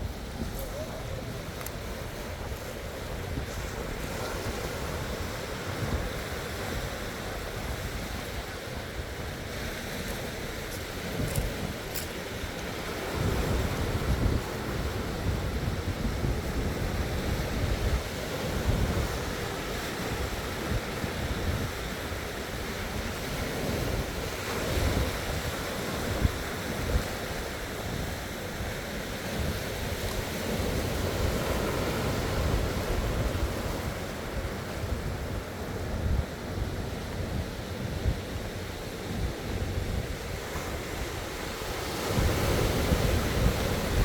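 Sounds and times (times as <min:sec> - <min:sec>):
sea waves breaking on shore: 0:00.0 - 0:44.0
wind buffeting microphone: 0:00.0 - 0:44.0.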